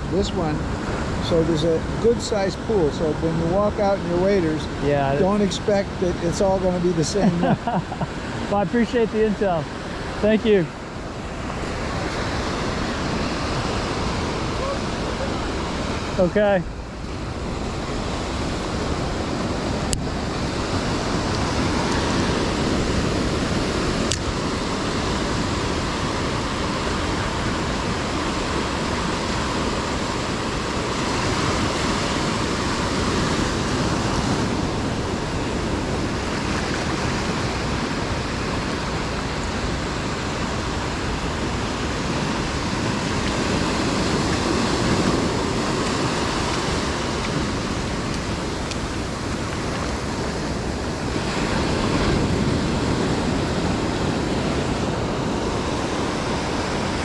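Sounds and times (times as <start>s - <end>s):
waves breaking on beach: 0.0s - 57.0s
wind on microphone: 0.0s - 57.0s.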